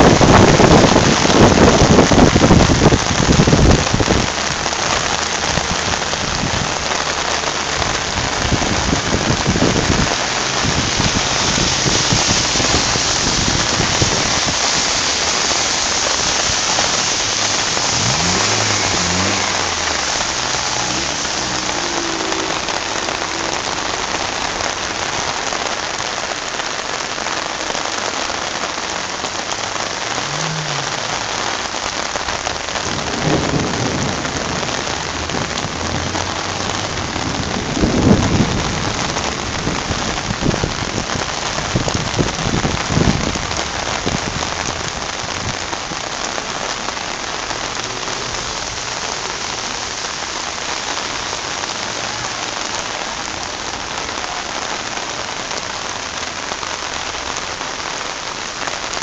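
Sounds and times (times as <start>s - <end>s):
low rumbles: 0.0s - 58.4s
heavy rain on water: 0.0s - 59.0s.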